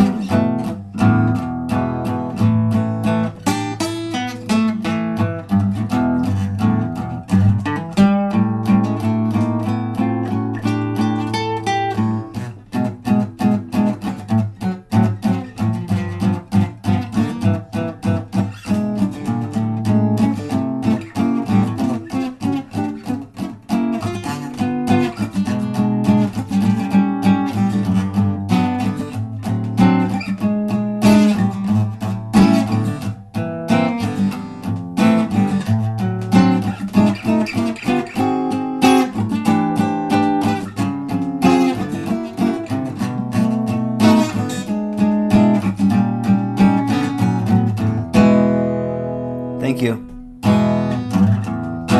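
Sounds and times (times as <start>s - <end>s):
acoustic guitar: 0.0s - 51.9s.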